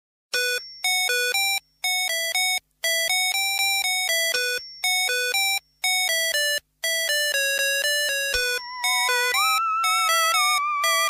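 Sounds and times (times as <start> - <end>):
bright electronic melody: 1.9 - 11.0.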